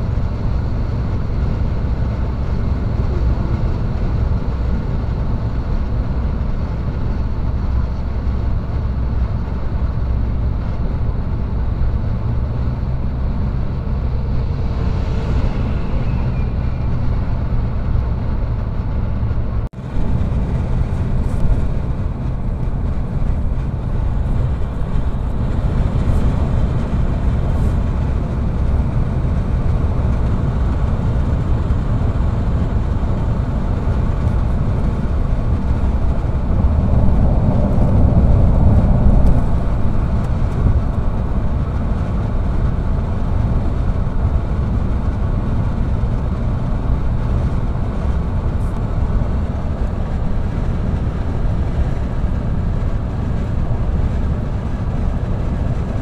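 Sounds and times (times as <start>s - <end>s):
tyre and engine rumble: 0.0s - 56.0s.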